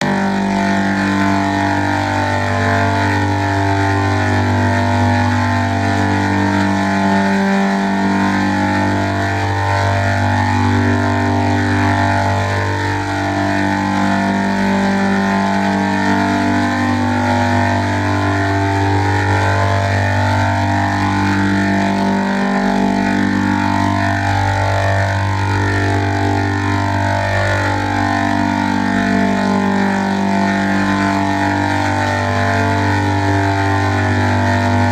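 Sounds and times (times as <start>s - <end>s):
drone of layered chord tones: 0.0s - 34.9s.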